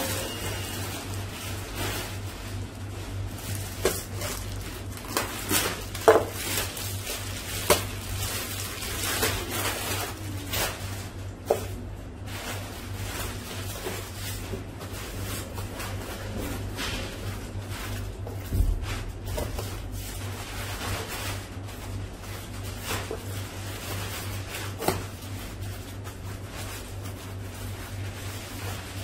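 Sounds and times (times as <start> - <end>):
paper towel rustling: 0.0 - 29.0
plastic crinkling: 0.0 - 29.0.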